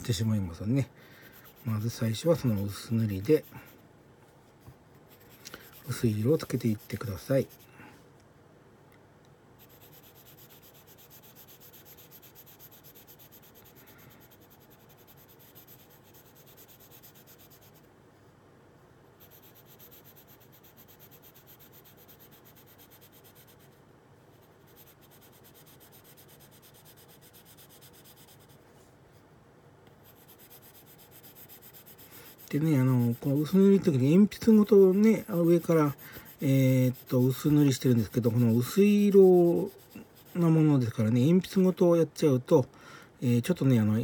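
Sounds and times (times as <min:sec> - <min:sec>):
pencil scratching on paper: 0:00.0 - 0:03.8, 0:05.1 - 0:07.8, 0:09.6 - 0:17.9, 0:19.2 - 0:28.6, 0:30.0 - 0:41.8.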